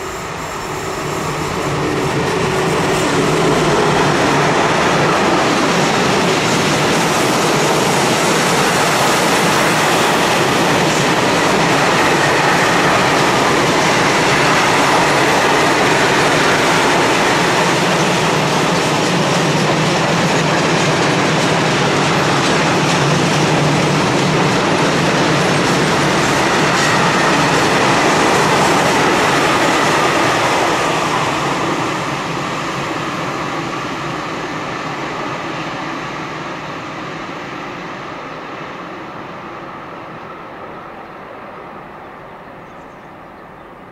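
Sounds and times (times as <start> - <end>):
freight train wheels clattering on rails: 0.0 - 39.4.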